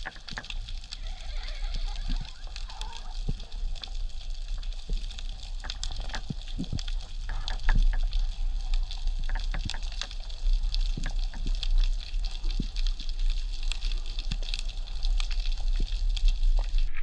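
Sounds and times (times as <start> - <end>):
sharp underwater clicks and crackles: 0.0 - 17.0
underwater rush of water: 0.0 - 17.0.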